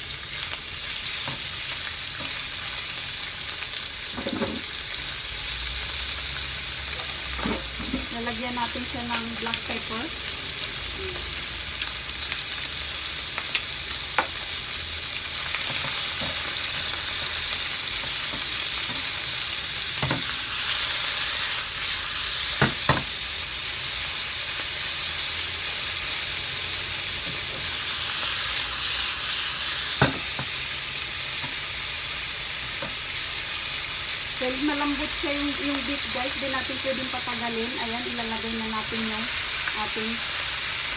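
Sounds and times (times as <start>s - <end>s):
beef sizzling in frying pan: 0.0s - 40.9s.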